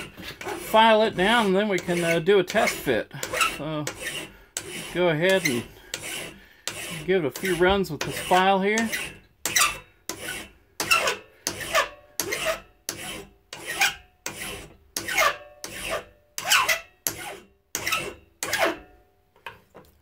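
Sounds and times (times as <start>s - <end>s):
file rasping on metal: 0.0s - 18.9s.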